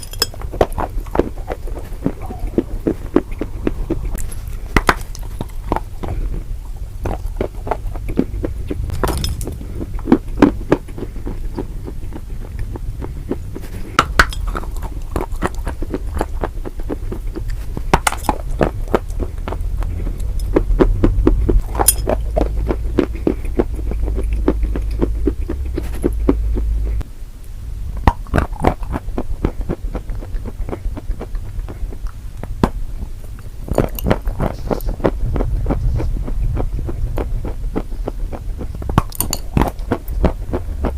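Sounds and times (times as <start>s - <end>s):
chewing crunchy food: 0.0s - 27.1s, 28.0s - 40.9s
heavy low rumble: 0.0s - 40.9s.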